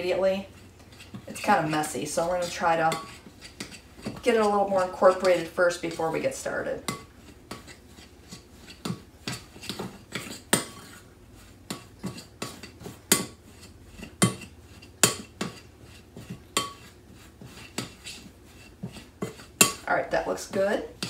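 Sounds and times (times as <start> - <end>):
spoon scraping glass bowl: 0.1 - 21.0.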